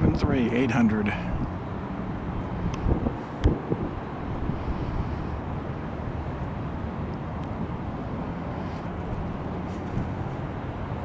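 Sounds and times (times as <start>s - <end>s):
jet engines steady noise: 0.0s - 11.0s.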